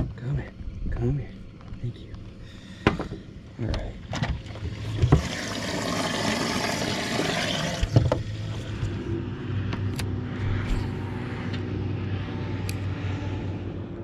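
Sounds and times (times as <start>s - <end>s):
boat motor hum: 0.0s - 14.0s.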